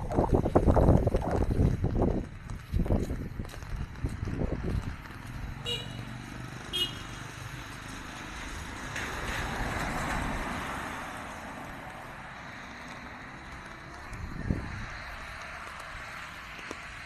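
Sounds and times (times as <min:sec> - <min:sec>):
urban background: 0:00.0 - 0:17.0
car tyres hissing on wet street: 0:00.2 - 0:17.0.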